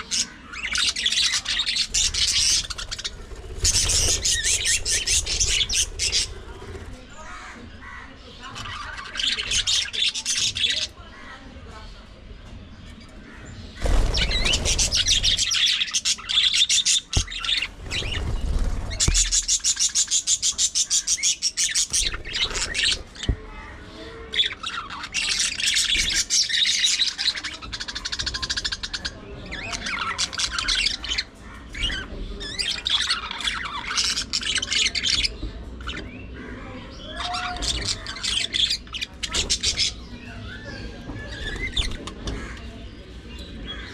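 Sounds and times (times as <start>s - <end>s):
budgerigars chattering: 0.0s - 12.0s, 13.0s - 43.9s.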